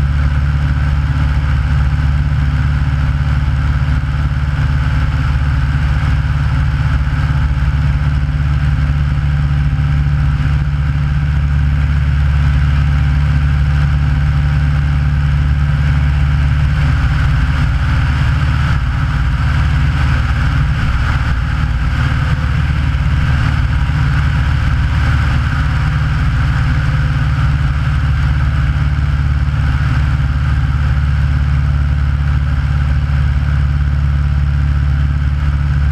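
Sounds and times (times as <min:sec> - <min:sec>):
light plane engine droning: 0:00.0 - 0:35.9.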